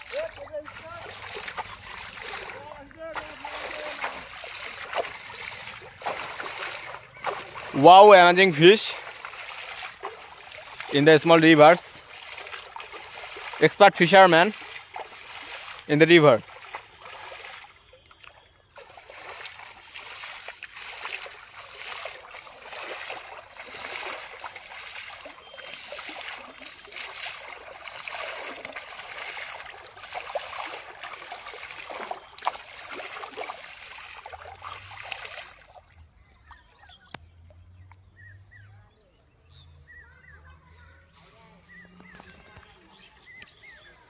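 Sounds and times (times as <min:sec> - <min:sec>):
sharp water slaps: 0:00.0 - 0:37.2
hands splashing river water: 0:00.0 - 0:38.7.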